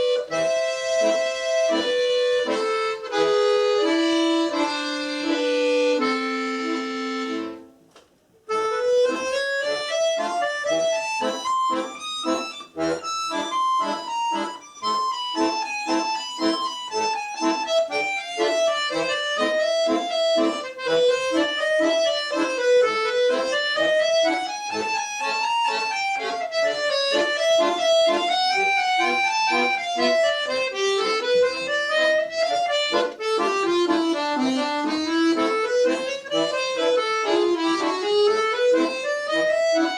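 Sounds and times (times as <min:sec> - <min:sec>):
solo accordion playing: 0:00.0 - 0:39.9.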